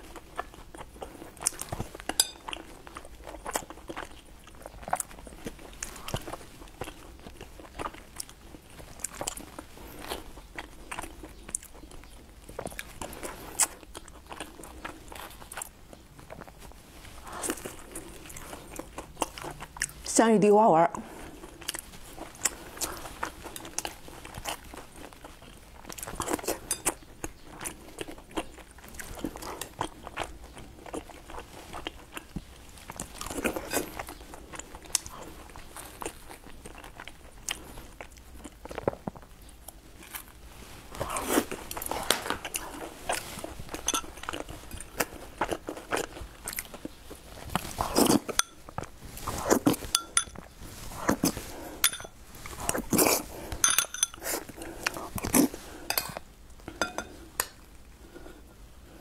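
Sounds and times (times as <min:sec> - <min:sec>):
chewing and crunching: 0:00.0 - 0:20.1, 0:21.0 - 0:59.0.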